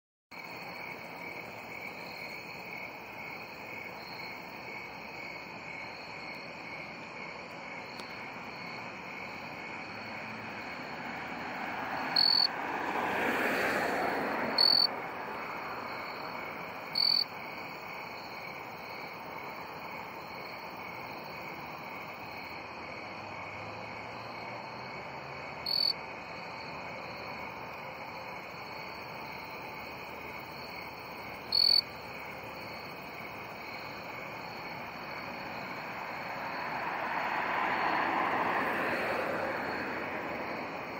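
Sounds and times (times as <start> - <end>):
pulsing insect trill: 0.4 - 12.6, 14.6 - 36.8
bush cricket high chirps: 0.4 - 40.9.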